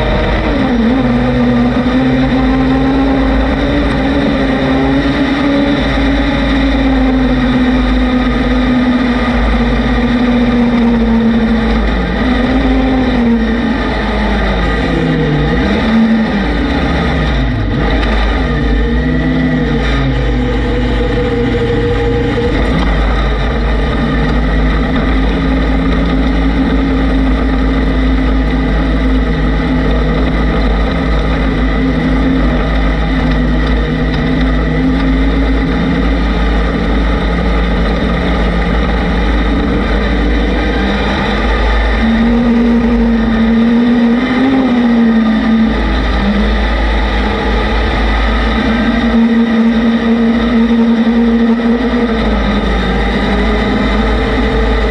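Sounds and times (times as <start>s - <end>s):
off-road vehicle engine running: 0.0s - 54.9s
wind rumble on microphone: 0.0s - 54.9s.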